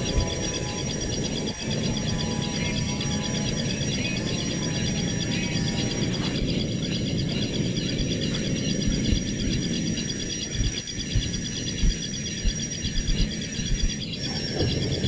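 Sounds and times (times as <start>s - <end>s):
insects chirring: 0.0s - 15.0s
steady high whine: 0.0s - 15.0s.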